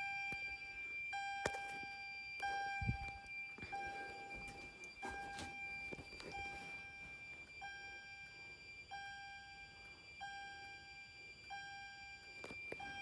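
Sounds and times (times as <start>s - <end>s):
fire alarm chime: 0.0s - 13.0s
steady high-pitched tone: 0.0s - 13.0s.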